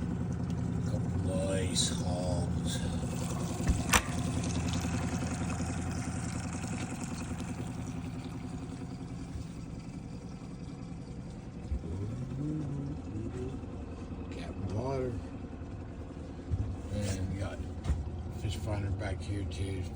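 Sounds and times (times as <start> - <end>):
motorboat engine running: 0.0 - 19.9.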